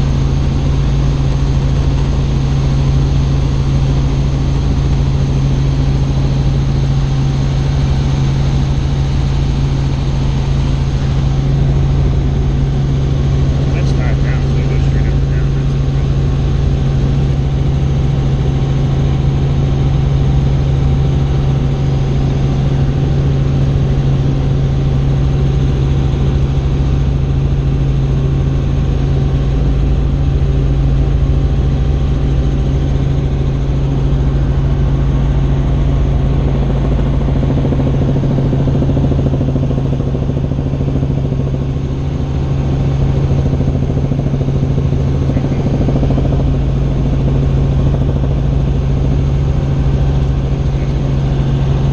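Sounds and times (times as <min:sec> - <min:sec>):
helicopter engine and rotors: 0:00.0 - 0:51.9.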